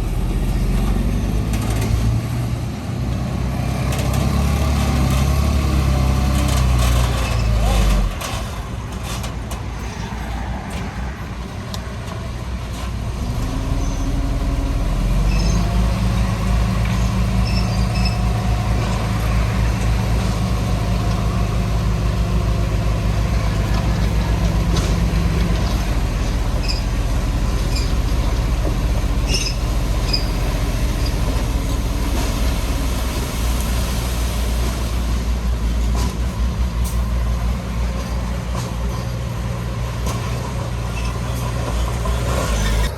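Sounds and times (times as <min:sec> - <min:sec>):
heavy machinery diesel engine: 0:00.0 - 0:42.9.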